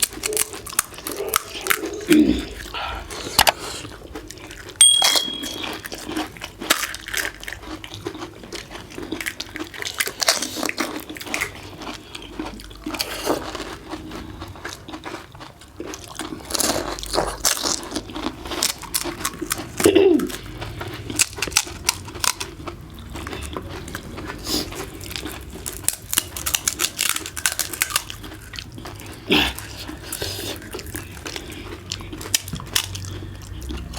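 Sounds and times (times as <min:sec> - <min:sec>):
crisp shells crunching in mouth: 0:05.4 - 0:33.9.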